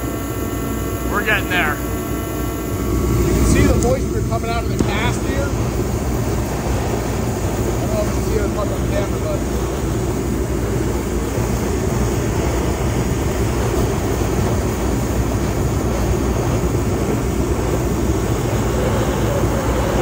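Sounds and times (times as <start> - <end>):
heater and torch burning: 0.0 - 20.0.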